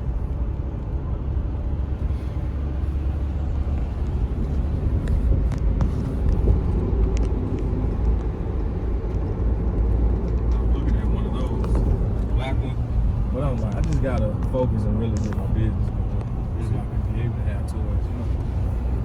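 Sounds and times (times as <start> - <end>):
engine and road noise in cab: 0.0 - 19.0.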